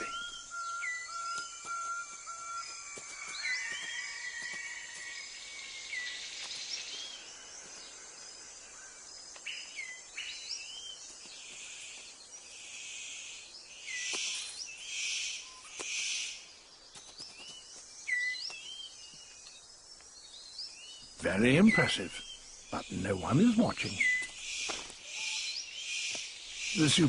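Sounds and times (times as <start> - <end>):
birds whistling: 0.0 - 16.5, 17.2 - 19.6, 20.2 - 27.0.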